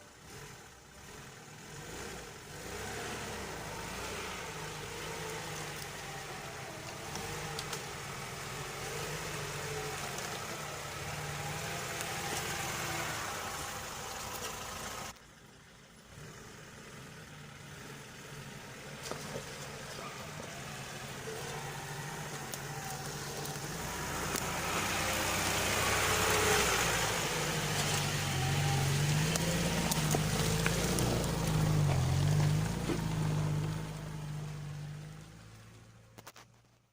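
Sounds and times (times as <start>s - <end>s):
car engine running: 0.0s - 36.2s.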